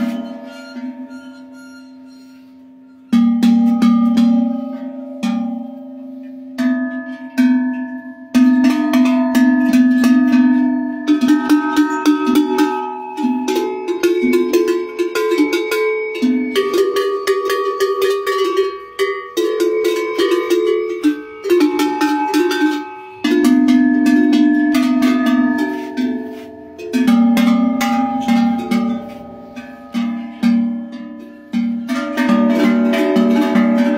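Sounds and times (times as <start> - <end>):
livestock bells clanging and jangling: 0.0 - 33.9.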